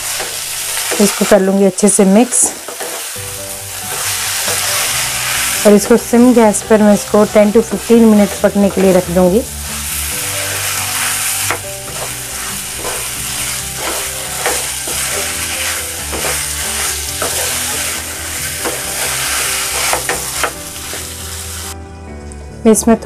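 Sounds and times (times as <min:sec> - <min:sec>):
food sizzling in a pan: 0:00.0 - 0:21.8
spatula scraping a pan: 0:02.3 - 0:21.5.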